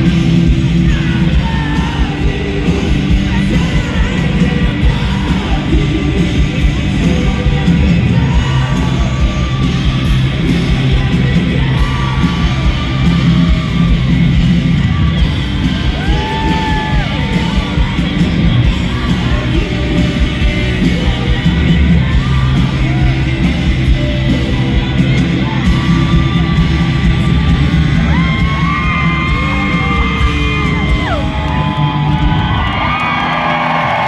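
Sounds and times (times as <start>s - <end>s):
crowd yelling: 0.0s - 34.0s
live rock band playing: 0.0s - 34.0s.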